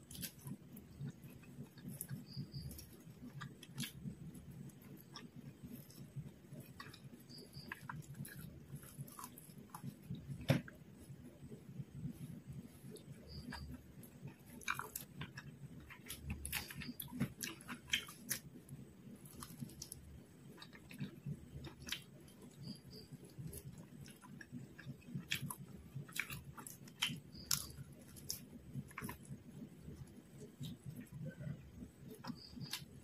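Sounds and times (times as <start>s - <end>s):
chewing fried food: 0.0s - 33.0s.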